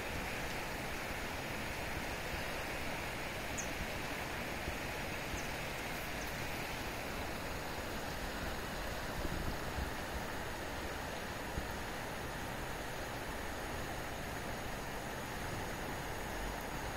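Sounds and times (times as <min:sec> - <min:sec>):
river rushing: 0:00.0 - 0:16.9.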